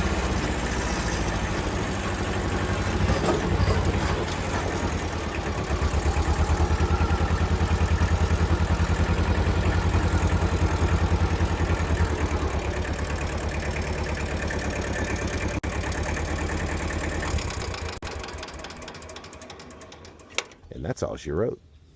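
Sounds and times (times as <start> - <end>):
tractor diesel engine running: 0.0 - 20.7.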